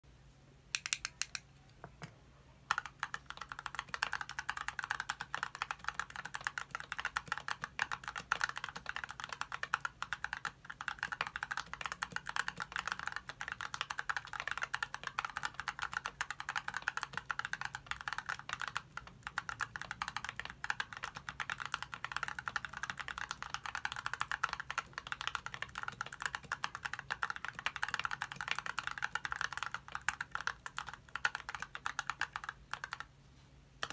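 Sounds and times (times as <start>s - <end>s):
fast mechanical keyboard typing: 2.7s - 33.1s.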